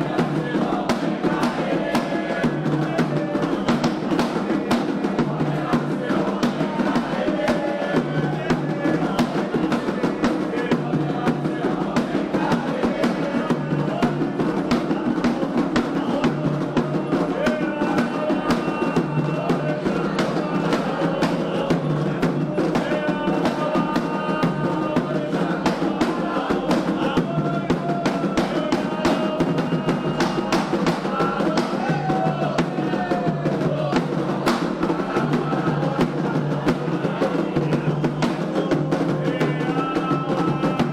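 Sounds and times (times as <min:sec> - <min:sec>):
hand drums driving rhythm: 0:00.0 - 0:40.9
voices singing: 0:00.0 - 0:40.9.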